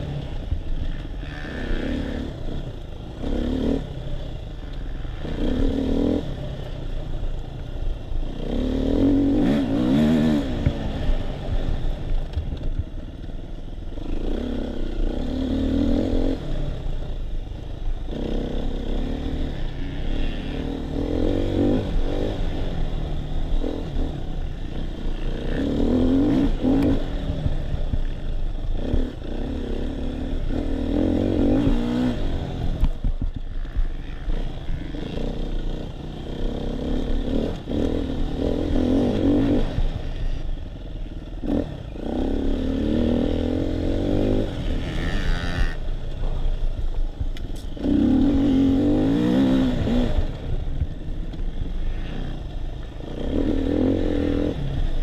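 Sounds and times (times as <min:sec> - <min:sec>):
dirt bike engine revving: 0:00.0 - 0:06.7, 0:08.0 - 0:12.3, 0:18.0 - 0:55.0.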